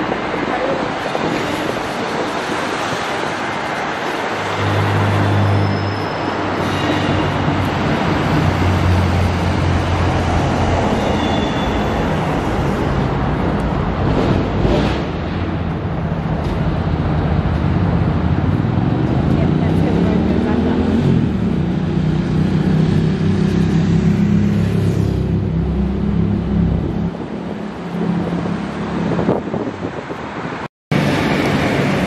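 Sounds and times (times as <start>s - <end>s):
city noise: 0.0s - 32.0s.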